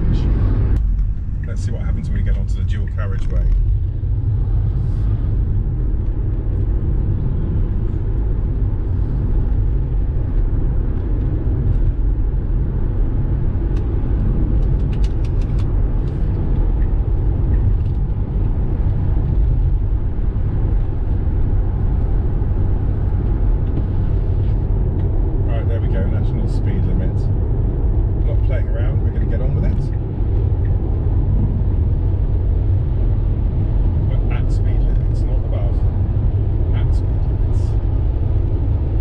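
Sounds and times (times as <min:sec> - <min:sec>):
tyre and road noise: 0:00.0 - 0:39.0.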